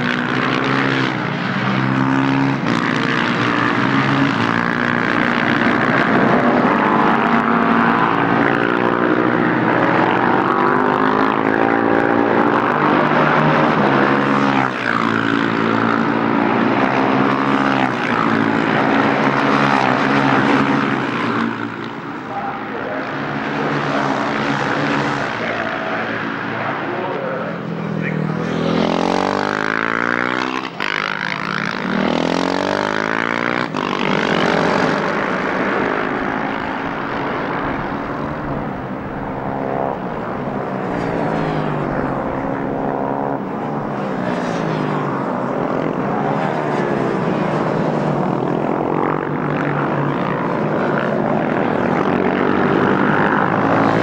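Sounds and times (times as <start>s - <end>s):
racing motorcycles passing: 0.0s - 54.0s.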